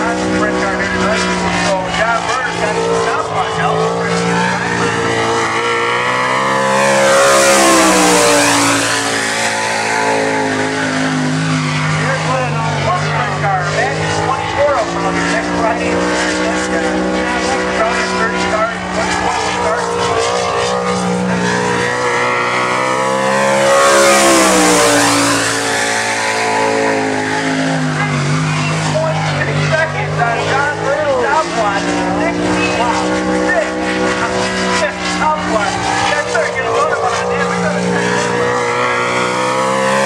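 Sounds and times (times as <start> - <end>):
race car engine passing by: 0.0 - 40.0.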